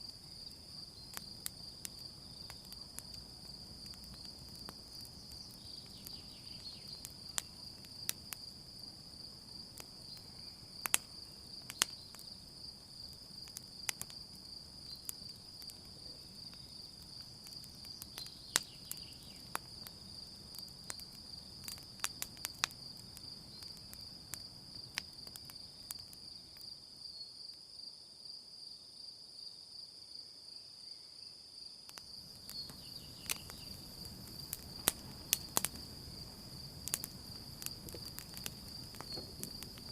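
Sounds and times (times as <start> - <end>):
campfire crackling and popping: 0.0 - 26.6, 31.9 - 39.9
crickets chirring: 0.0 - 39.9.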